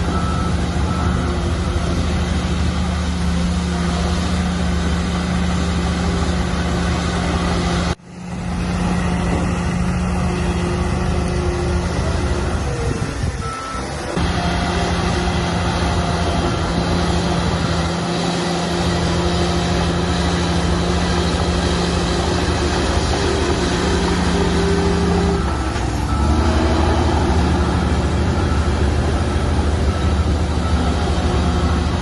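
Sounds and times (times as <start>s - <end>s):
heavy diesel machinery engines: 0.0s - 32.0s.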